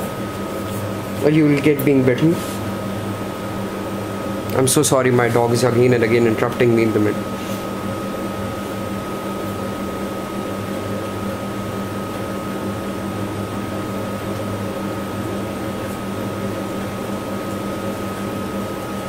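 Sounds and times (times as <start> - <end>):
steady machine hum: 0.0 - 19.0
thin constant whine: 0.0 - 19.0.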